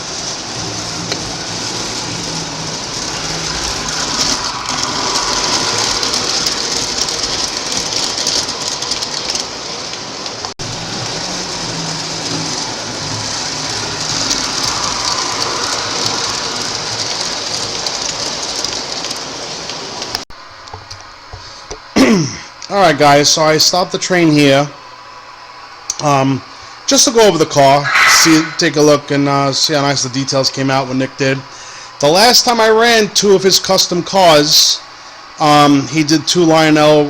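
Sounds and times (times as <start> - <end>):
model train wheels and motor rumble: 0.0 - 24.8, 29.3 - 37.0.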